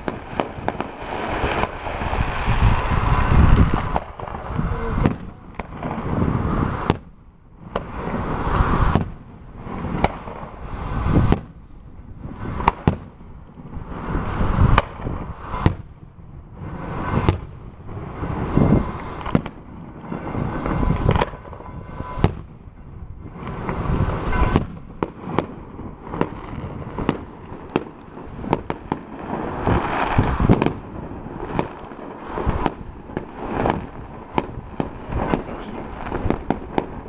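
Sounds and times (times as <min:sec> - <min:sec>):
fireworks bangs: 0:00.0 - 0:37.0
fireworks rumble: 0:00.0 - 0:37.0.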